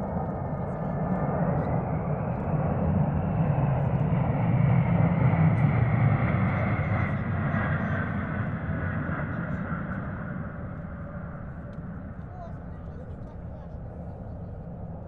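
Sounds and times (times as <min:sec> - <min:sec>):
military aircraft flying past: 0:00.0 - 0:15.0.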